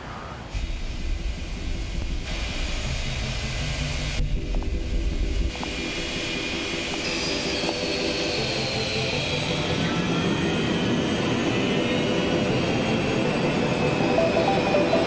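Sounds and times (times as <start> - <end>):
jet engine rumble and whine: 0.0 - 15.0.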